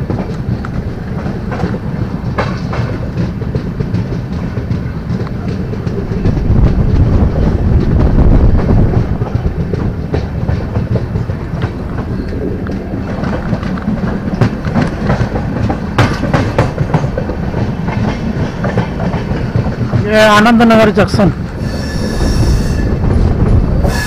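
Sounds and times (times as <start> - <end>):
train wheels rumbling on track: 0.0 - 24.0
wheels clicking over track: 0.0 - 24.0
wind: 0.0 - 24.0.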